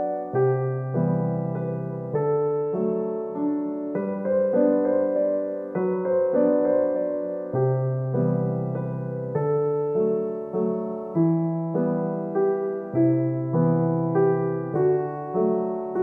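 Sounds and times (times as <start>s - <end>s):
piano notes and chords: 0.0s - 16.0s.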